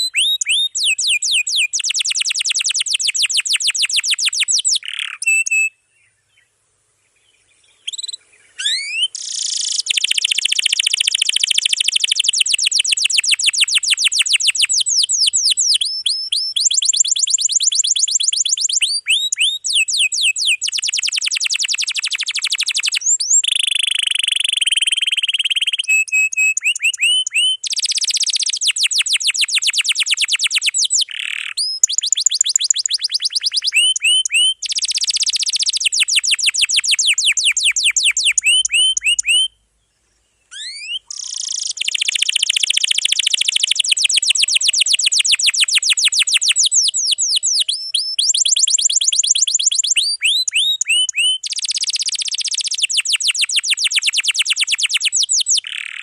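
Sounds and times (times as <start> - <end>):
canary singing: 0.0 - 5.8, 7.7 - 39.6, 40.4 - 56.0.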